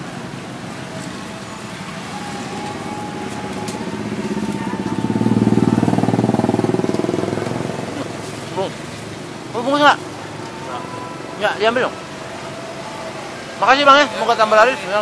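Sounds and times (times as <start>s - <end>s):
vehicle engine passing: 0.0s - 13.9s.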